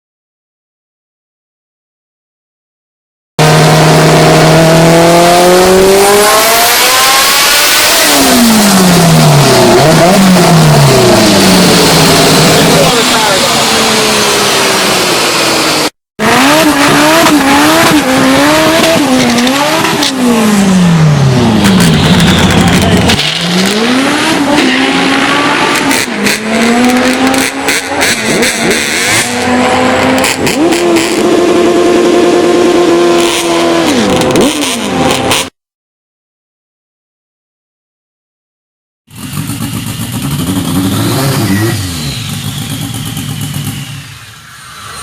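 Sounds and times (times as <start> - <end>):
turbocharged engine revving: 3.4 - 35.6, 39.1 - 45.0.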